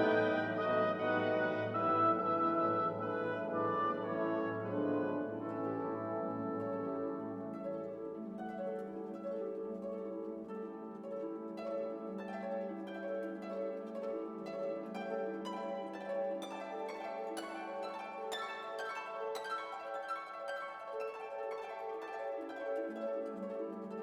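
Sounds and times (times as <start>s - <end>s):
plucked harp and pizzicato strings: 0.0s - 24.0s.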